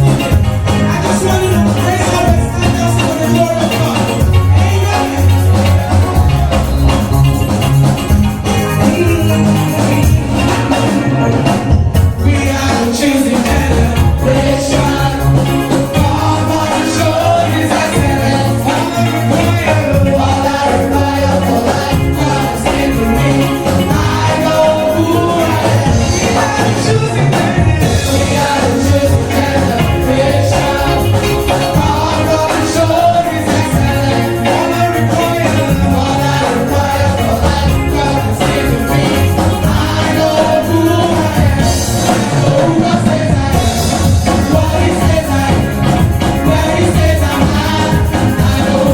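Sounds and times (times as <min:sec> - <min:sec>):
bass: 0:00.0 - 0:48.9
gospel vocal group singing: 0:00.0 - 0:48.9
steady drum beat: 0:00.0 - 0:48.9.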